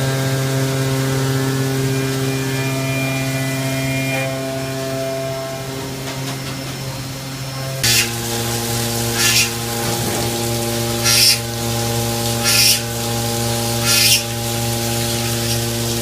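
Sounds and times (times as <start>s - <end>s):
machining center humming: 0.0s - 16.0s.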